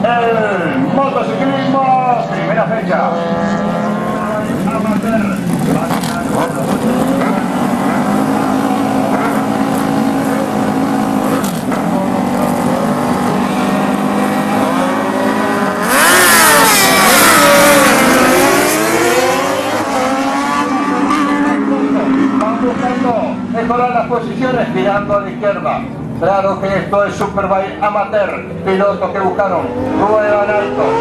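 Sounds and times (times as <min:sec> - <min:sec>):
racing motorcycles revving: 0:00.0 - 0:31.0.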